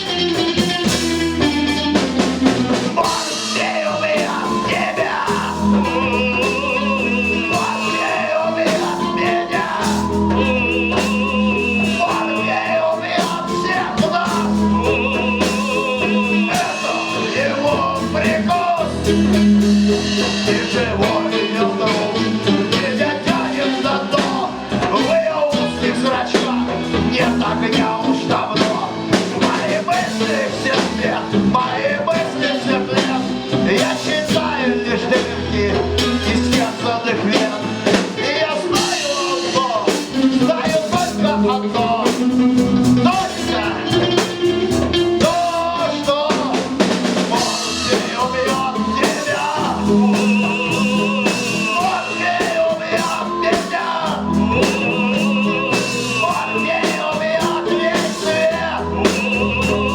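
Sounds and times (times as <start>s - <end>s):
person singing: 0.0s - 59.9s
rock band playing live: 0.0s - 59.9s.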